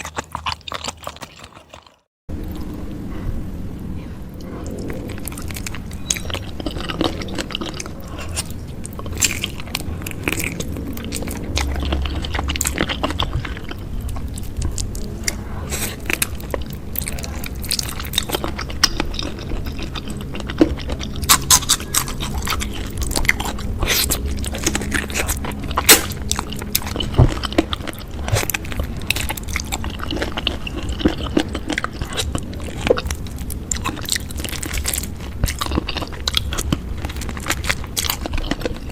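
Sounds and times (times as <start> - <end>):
person chewing and crunching: 0.0 - 2.8, 4.4 - 38.9.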